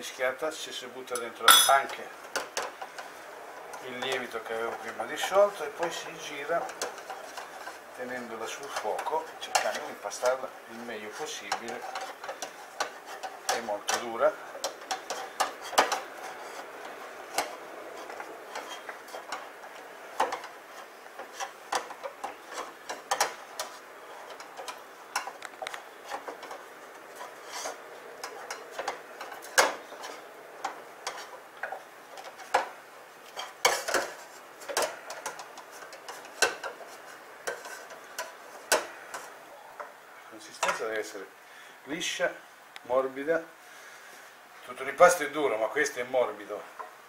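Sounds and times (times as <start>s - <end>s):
spoon knocking and scraping pan: 1.2s - 40.0s.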